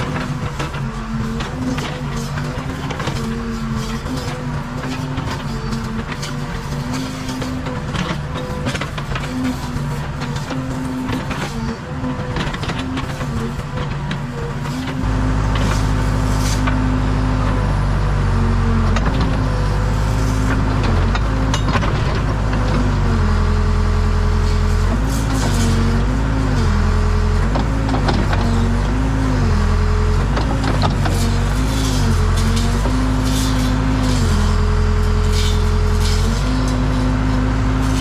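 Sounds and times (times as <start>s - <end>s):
diesel engine running under load: 0.0s - 38.0s.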